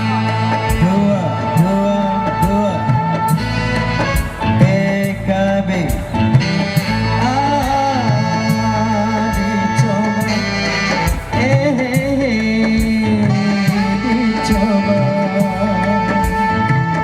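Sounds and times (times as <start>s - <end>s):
live band playing: 0.0s - 17.0s
sliding melody line: 0.0s - 17.0s.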